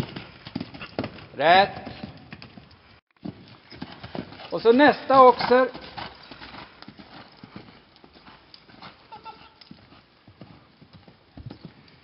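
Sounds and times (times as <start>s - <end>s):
horse hoofbeats on sand: 0.0s - 12.0s.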